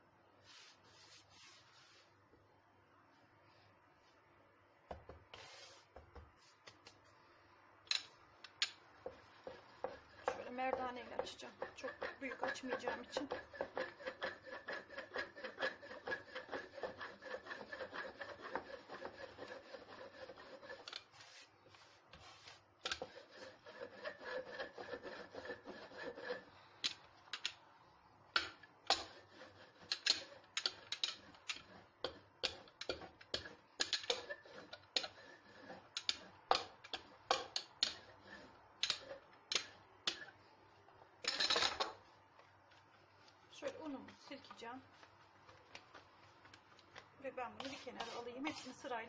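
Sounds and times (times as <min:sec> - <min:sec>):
rolling pin rubbing on dough: 0:00.4 - 0:02.1, 0:05.3 - 0:06.6, 0:09.0 - 0:26.6, 0:28.9 - 0:40.3, 0:41.3 - 0:49.0.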